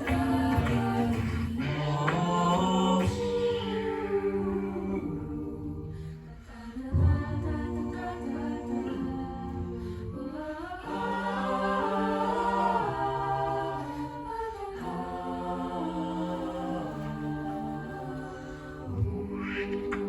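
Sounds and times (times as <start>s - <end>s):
a cappella group singing: 0.0s - 20.0s.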